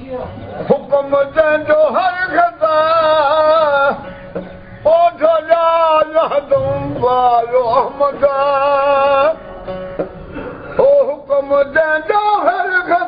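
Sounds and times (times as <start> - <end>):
old man singing folk song: 0.0 - 9.5, 10.7 - 13.0
long-necked lute: 0.2 - 13.0.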